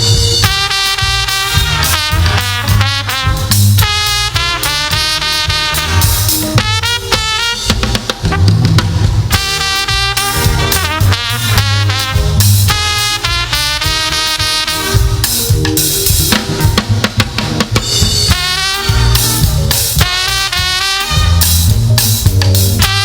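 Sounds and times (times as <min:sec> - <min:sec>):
drum kit beat: 0:00.0 - 0:23.0
saxophone and brass horn section: 0:00.0 - 0:23.0.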